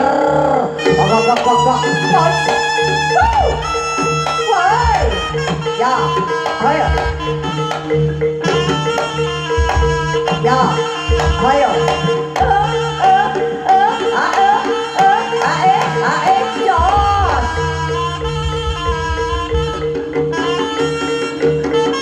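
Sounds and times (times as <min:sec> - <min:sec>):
sliding wavering lead melody: 0:00.0 - 0:22.0
steady held tone: 0:00.5 - 0:22.0
hand drum strokes: 0:00.8 - 0:22.0.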